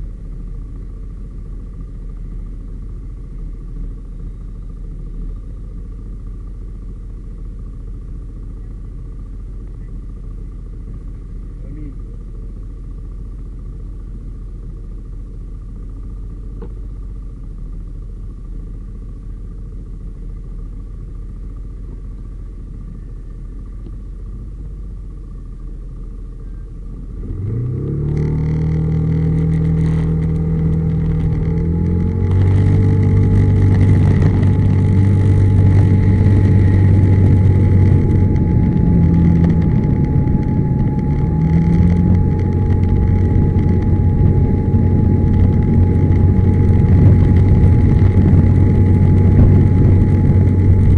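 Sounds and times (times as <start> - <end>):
scooter engine idling and accelerating: 0.0 - 50.9.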